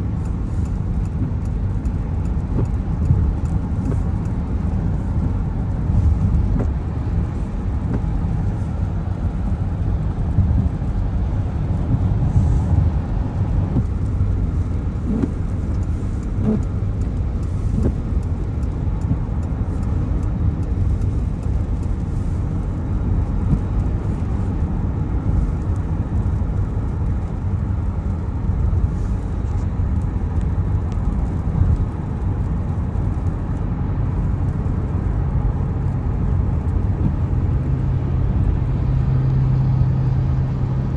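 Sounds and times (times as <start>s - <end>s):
car tyres on wet road: 0.0s - 40.9s.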